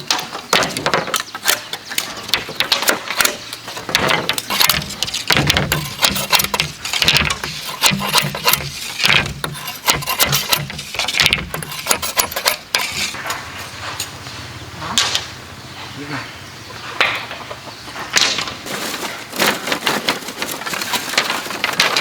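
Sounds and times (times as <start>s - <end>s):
knocks and clatter: 0.0s - 14.2s, 17.0s - 22.0s.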